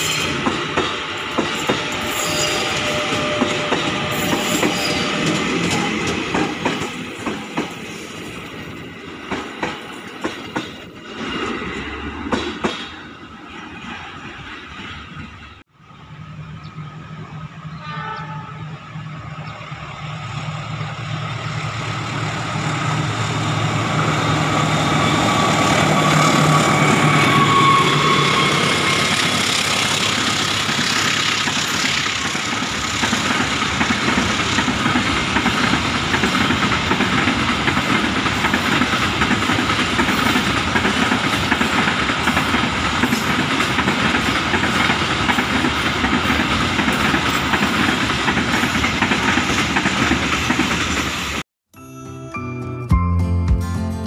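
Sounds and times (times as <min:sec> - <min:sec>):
train wheels rumbling and clacking: 0:00.0 - 0:15.7, 0:19.2 - 0:51.4.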